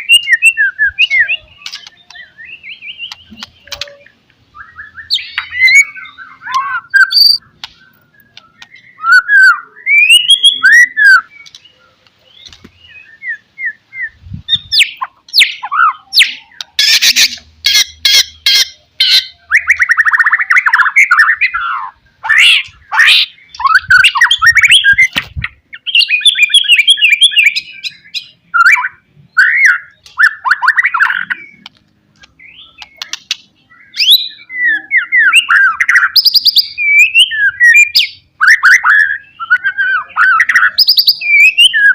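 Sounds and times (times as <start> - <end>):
bird singing varied song: 0.0 - 41.9.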